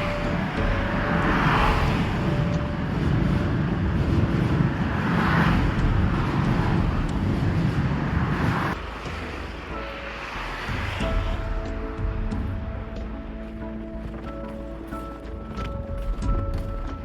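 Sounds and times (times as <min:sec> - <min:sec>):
road traffic: 0:00.0 - 0:16.8
wind buffeting microphone: 0:00.0 - 0:17.0.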